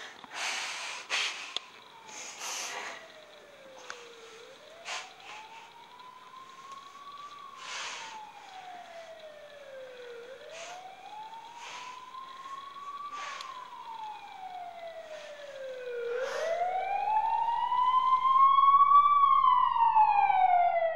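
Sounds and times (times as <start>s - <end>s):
police siren wailing: 0.0s - 20.9s.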